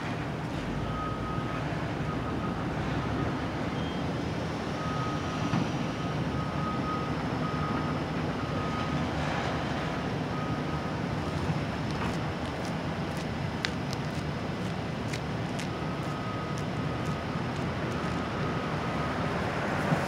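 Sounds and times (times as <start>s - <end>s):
diesel engine low rumble: 0.0s - 20.0s.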